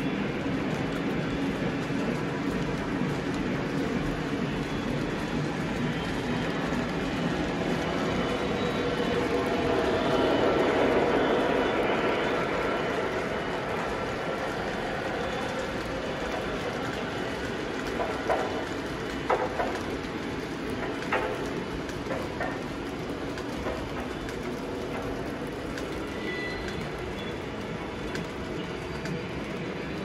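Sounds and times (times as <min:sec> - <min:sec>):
train rumbling on track: 0:00.0 - 0:30.0.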